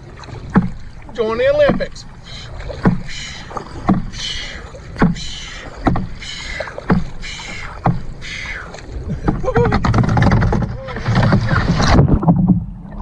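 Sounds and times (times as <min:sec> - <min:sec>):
paddle knocking on canoe: 0:00.0 - 0:12.7
water splashing off paddle: 0:00.0 - 0:13.0.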